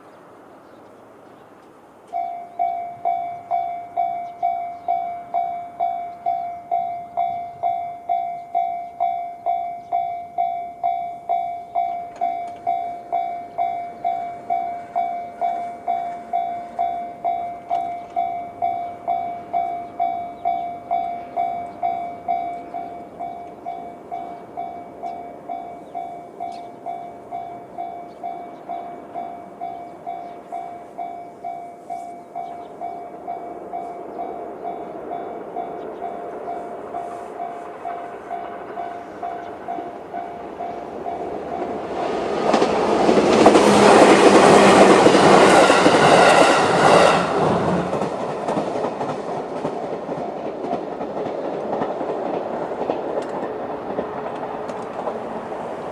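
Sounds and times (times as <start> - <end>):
level crossing warning bell: 2.0 - 55.9.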